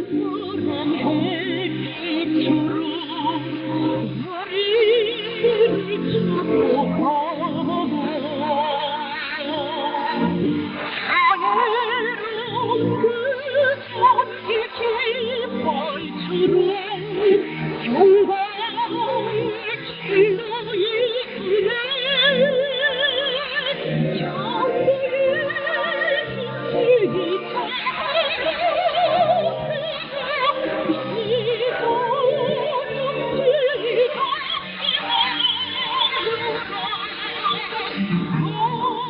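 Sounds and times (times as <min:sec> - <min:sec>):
operatic singing with vibrato: 0:00.0 - 0:39.0.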